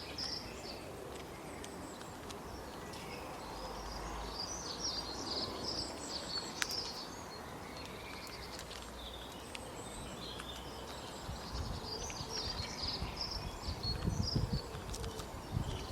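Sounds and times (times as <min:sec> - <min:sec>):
outdoor background noise: 0:00.0 - 0:15.9
small birds chirping and trilling: 0:00.0 - 0:15.9.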